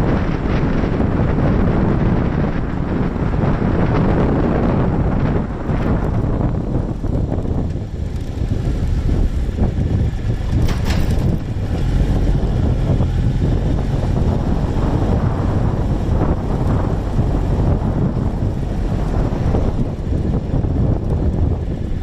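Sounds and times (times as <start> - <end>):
motorcycle running: 0.0 - 22.0
wind buffeting microphone: 0.0 - 22.0.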